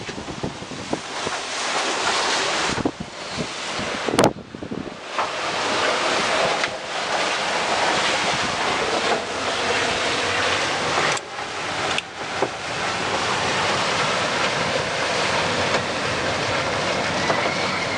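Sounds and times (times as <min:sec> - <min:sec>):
water rushing along boat hull: 0:00.0 - 0:17.9
wind buffeting microphone: 0:00.0 - 0:17.9.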